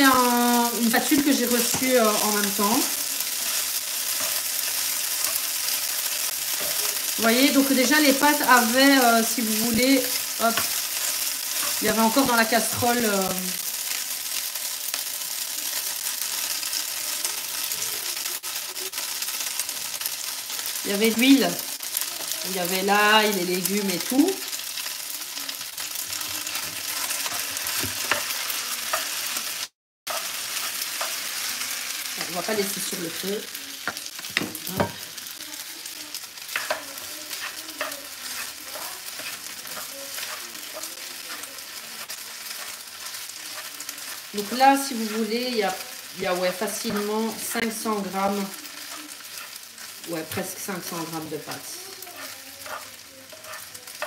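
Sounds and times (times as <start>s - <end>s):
pasta sizzling in a frying pan: 0.0s - 54.0s.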